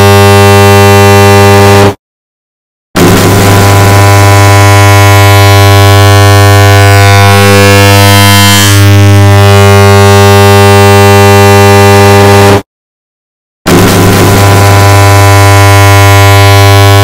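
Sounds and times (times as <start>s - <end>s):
distorted buzzing drone: 0.0s - 1.9s, 3.0s - 12.7s, 13.7s - 17.0s.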